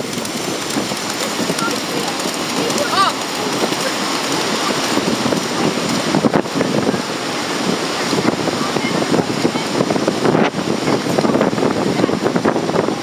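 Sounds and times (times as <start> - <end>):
surf breaking: 0.0 - 13.0
wind buffeting microphone: 0.0 - 13.0.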